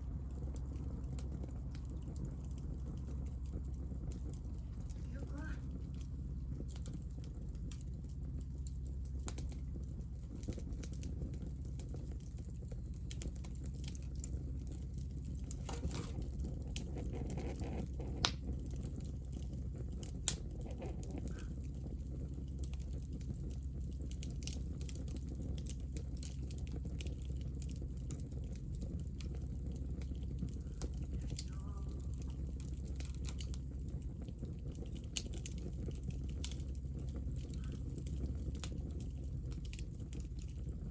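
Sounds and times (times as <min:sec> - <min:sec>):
low fire rumble: 0:00.0 - 0:40.9
sharp fire snaps: 0:00.0 - 0:40.9
wood fire crackling: 0:00.0 - 0:40.9.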